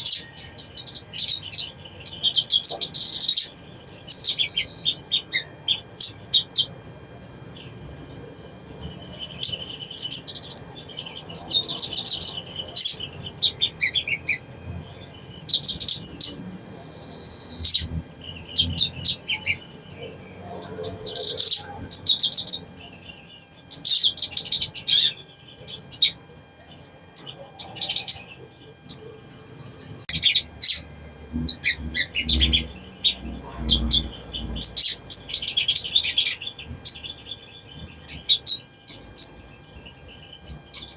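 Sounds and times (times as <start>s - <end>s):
bird chattering calls: 0.0s - 40.9s.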